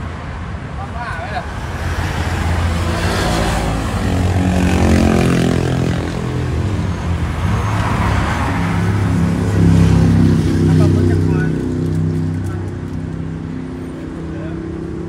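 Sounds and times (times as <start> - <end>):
traffic passing by: 0.0 - 15.0.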